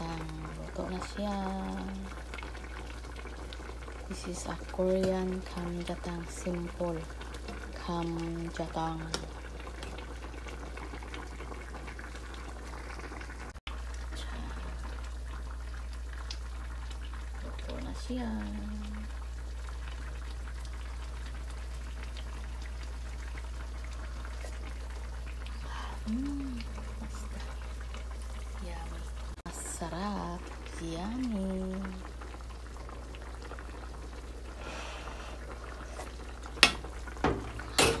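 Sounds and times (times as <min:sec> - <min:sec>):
stew bubbling at a boil: 0:00.0 - 0:38.0.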